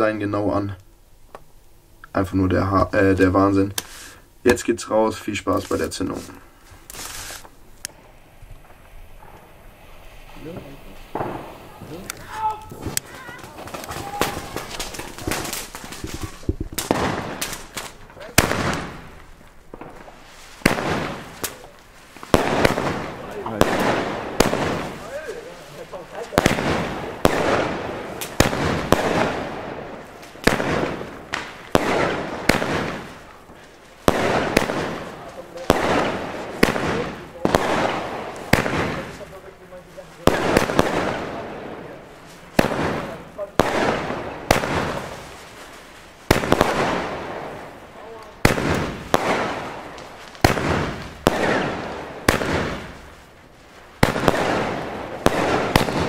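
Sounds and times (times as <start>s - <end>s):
firework crackling hiss: 0.8s - 56.0s
firework shots: 5.2s - 56.0s.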